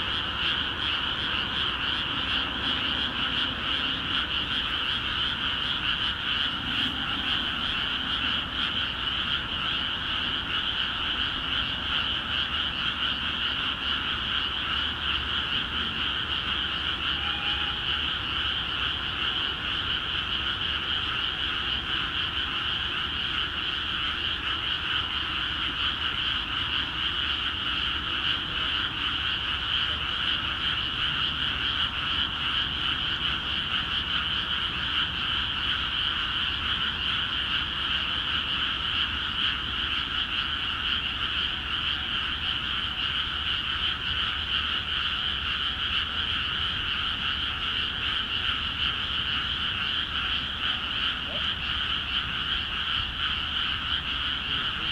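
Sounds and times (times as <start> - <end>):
frog chorus: 0.0 - 54.9.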